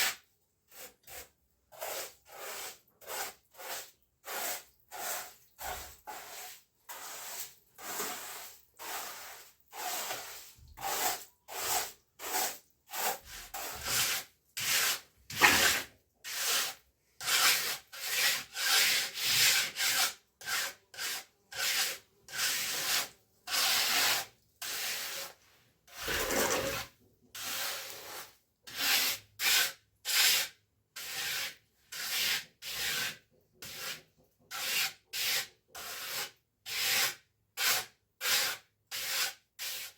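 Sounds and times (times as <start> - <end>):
trowel scraping cement: 0.0 - 39.9.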